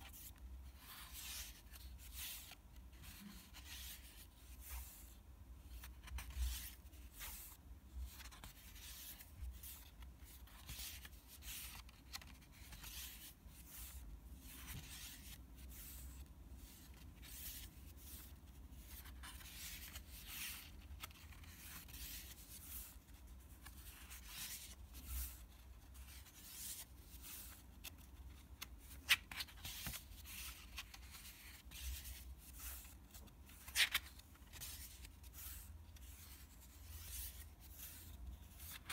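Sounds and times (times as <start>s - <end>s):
paper pages rustling: 0.0s - 38.9s.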